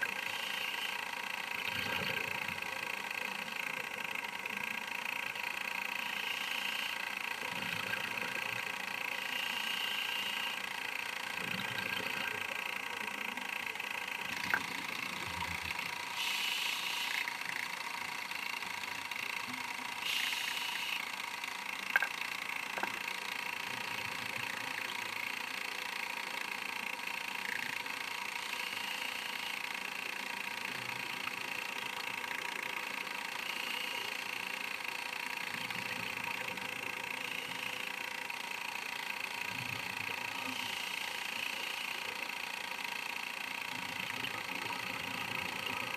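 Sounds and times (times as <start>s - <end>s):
camera motor hum and whine: 0.0s - 45.9s.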